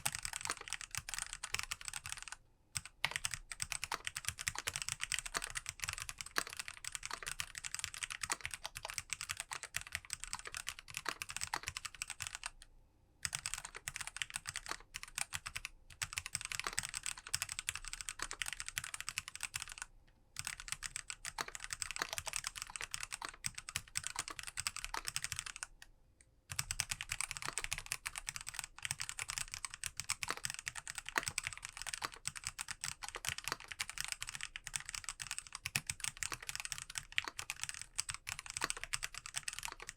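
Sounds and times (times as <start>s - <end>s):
fast typing on mechanical keyboard: 0.0s - 12.6s, 13.2s - 25.8s, 26.5s - 39.9s.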